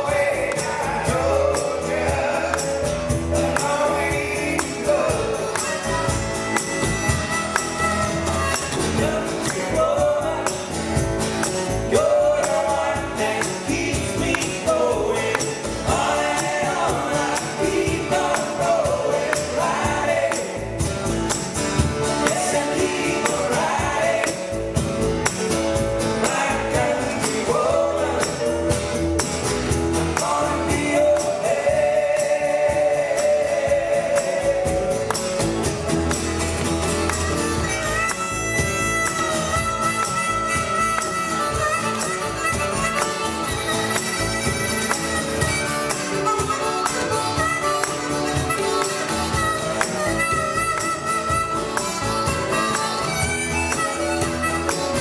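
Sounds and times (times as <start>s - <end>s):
live pop band playing: 0.0s - 55.0s
tambourine shaking: 0.0s - 55.0s.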